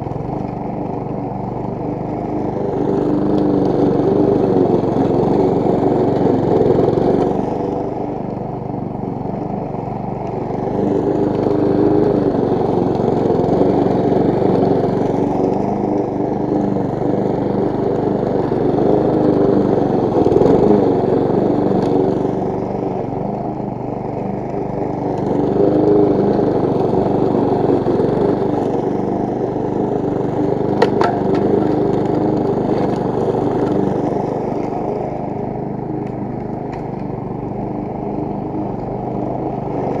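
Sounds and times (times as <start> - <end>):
lawn mower engine running: 0.0 - 40.0.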